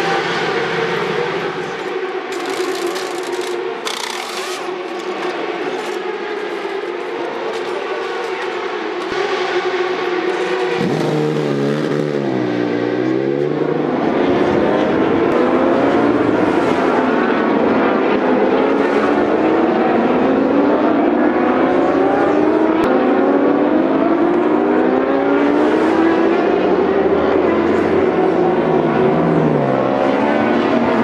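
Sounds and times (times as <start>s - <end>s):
racing motorcycle engines: 0.0s - 31.0s.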